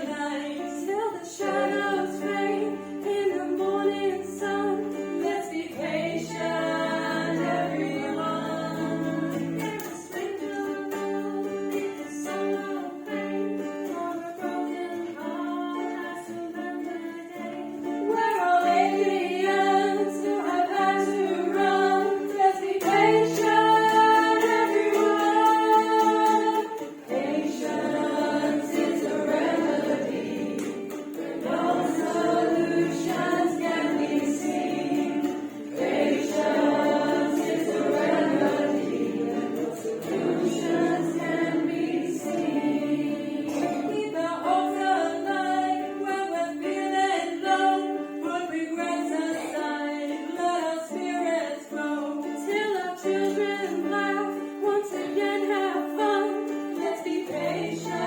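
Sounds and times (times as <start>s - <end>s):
women singing in harmony: 0.0s - 58.0s.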